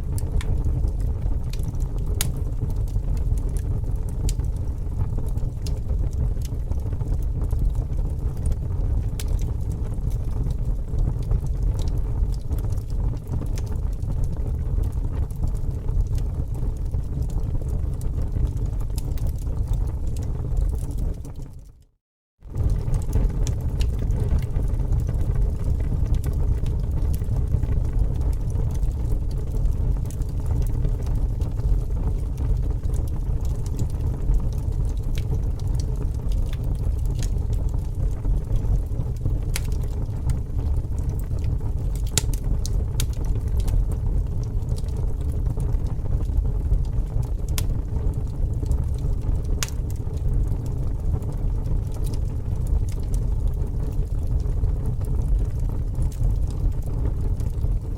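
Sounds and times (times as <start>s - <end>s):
fire crackling and popping: 0.0s - 57.9s.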